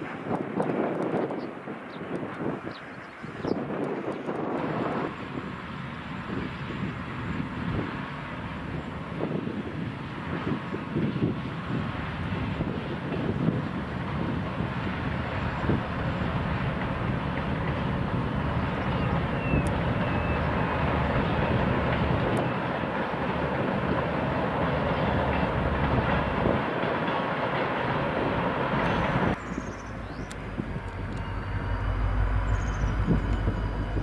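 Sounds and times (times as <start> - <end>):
train wheels rumbling and rattling: 3.7 - 34.0.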